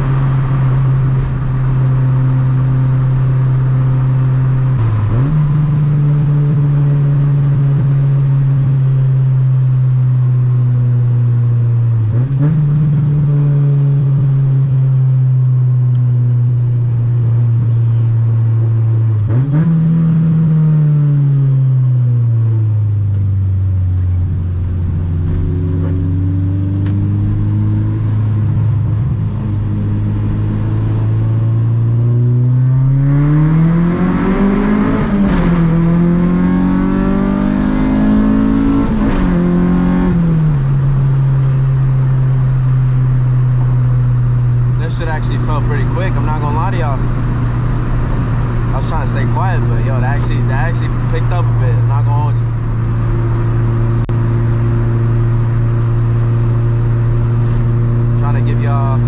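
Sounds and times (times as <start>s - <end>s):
car engine while driving: 0.0s - 59.0s.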